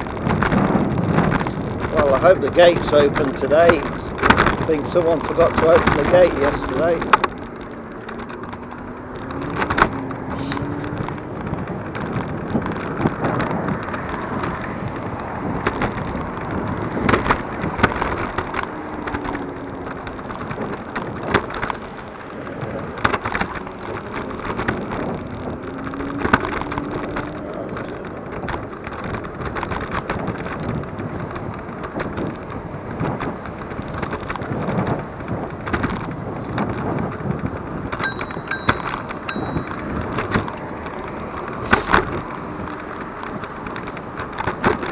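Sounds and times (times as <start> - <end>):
knocks and rattles over bumps: 0.0 - 44.9
wind and tyre rumble: 0.0 - 44.9.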